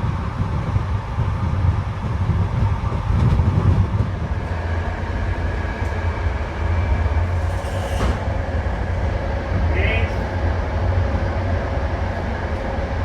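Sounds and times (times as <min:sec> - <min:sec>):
passenger train rumbling: 0:00.0 - 0:13.0.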